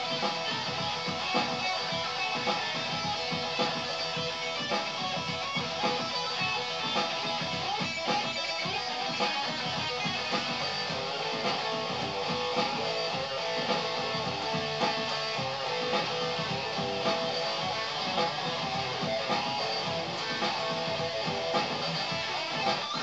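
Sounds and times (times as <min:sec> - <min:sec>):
electric guitar strummed: 0:00.0 - 0:23.0.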